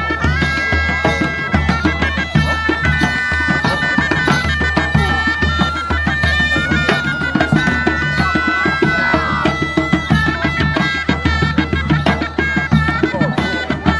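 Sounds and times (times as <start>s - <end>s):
bagpipe melody with drone: 0.0s - 13.9s
fast drumming: 0.0s - 13.9s.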